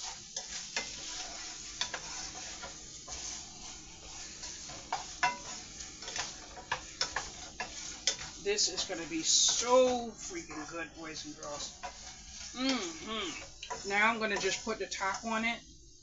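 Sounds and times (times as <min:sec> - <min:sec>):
sauce sizzling in a pot: 0:00.0 - 0:16.0
utensil stirring against pot: 0:00.0 - 0:16.0.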